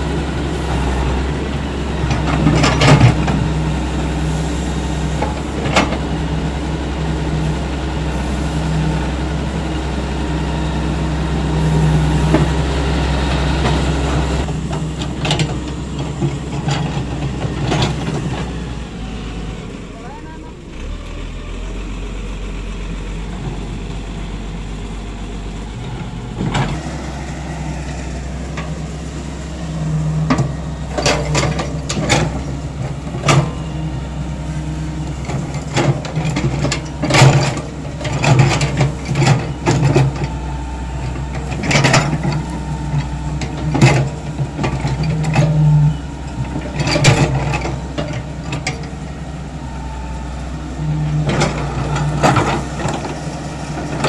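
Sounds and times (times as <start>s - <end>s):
diesel excavator engine: 0.0s - 54.0s.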